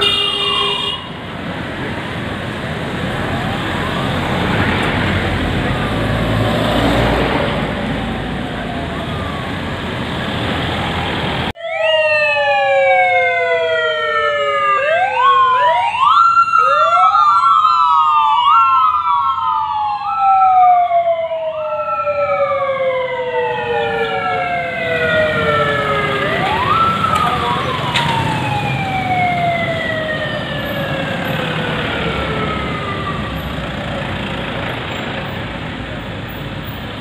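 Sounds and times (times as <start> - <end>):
sirens wailing: 0.0 - 37.0
street traffic noise: 0.0 - 37.0.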